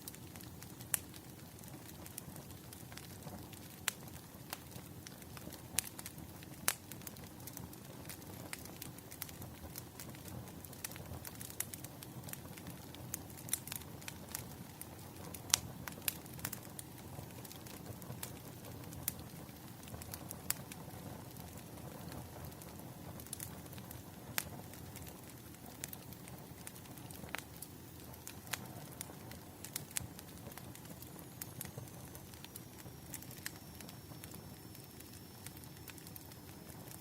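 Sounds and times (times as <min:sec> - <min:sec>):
low rumble of burning logs: 0:00.0 - 0:37.0
wood fire crackling and popping: 0:00.0 - 0:37.0.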